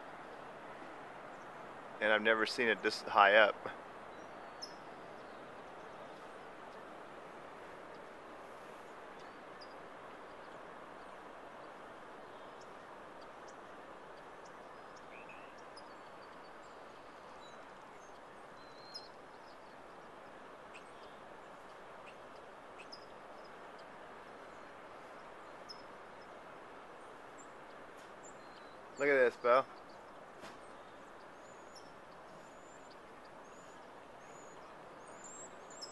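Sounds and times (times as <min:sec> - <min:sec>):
distant ocean surf: 0:00.0 - 0:35.9
small birds chirping: 0:01.3 - 0:35.9.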